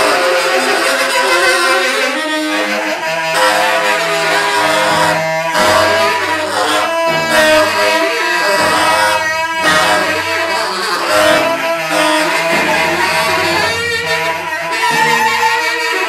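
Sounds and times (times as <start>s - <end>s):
bowed cello: 0.0s - 16.0s
tenor saxophones: 0.0s - 16.0s.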